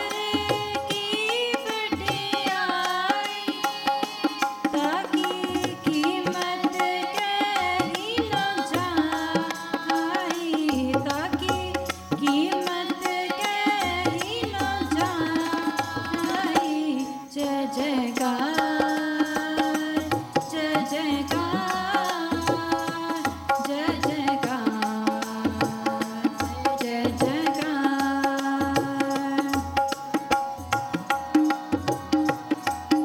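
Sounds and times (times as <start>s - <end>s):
harmonium melody: 0.0s - 33.0s
tabla rhythm: 0.0s - 33.0s
women singing in unison: 0.0s - 33.0s.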